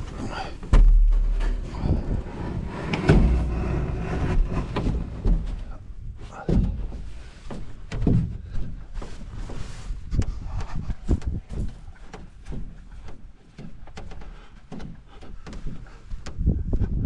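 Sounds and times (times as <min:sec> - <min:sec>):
dull thumps with low rumble: 0:00.0 - 0:14.2.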